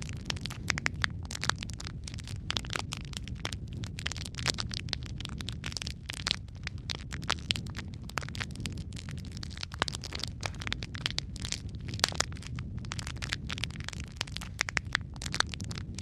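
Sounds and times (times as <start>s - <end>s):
fire crackling and snapping: 0.0s - 16.0s
low rumble of flames: 0.0s - 16.0s.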